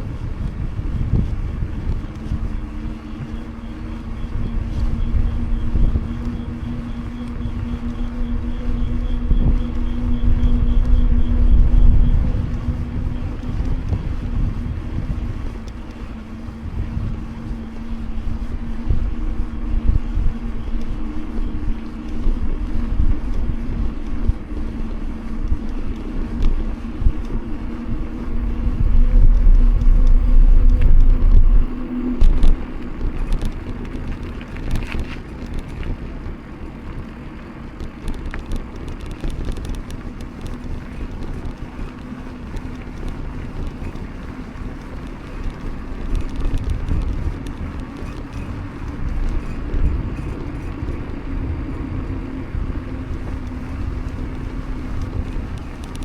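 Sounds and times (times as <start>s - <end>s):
bike tyre hum on pavement: 0.0s - 56.0s
wind rumble on microphone: 0.0s - 56.0s.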